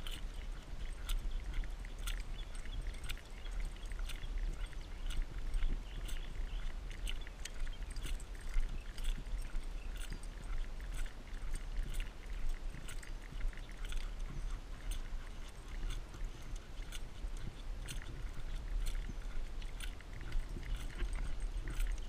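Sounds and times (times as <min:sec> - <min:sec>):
dog feet tapping on asphalt: 0:00.0 - 0:22.0
wind rumble on microphone: 0:00.0 - 0:22.0.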